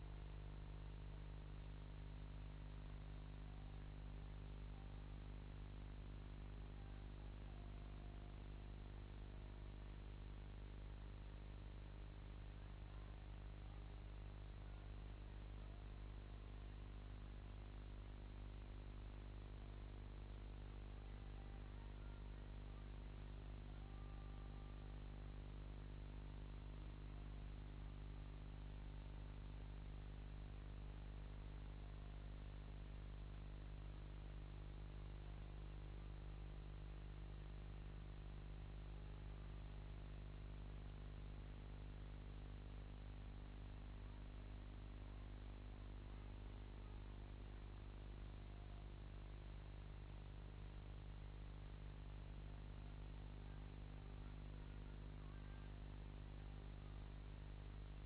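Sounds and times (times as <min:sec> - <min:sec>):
electrical hum and hiss: 0:00.0 - 0:58.0
faint high whine: 0:00.0 - 0:58.0.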